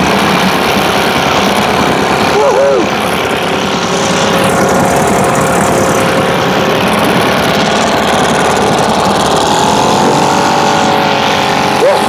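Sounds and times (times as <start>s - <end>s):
two-stroke outboard motor running: 0.0s - 12.0s.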